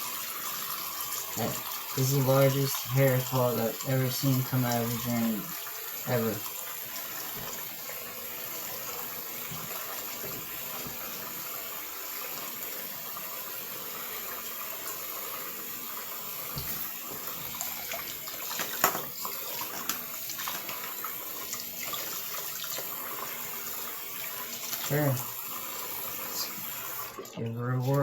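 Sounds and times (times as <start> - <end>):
faucet running into sink: 0.0 - 28.0.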